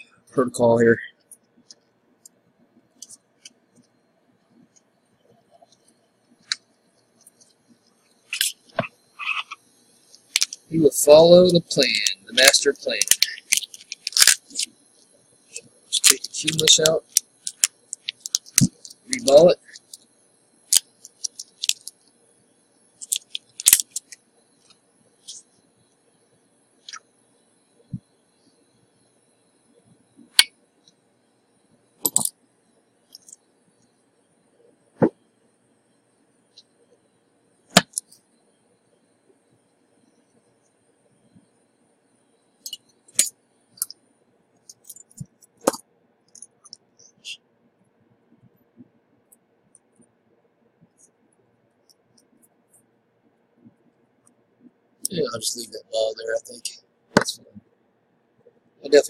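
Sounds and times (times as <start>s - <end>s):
faint high-pitched whine: 0.0s - 59.0s.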